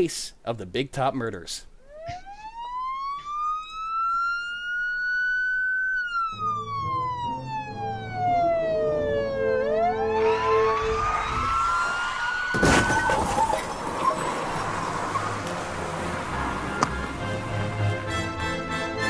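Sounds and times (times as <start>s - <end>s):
police siren wailing: 1.8s - 19.0s.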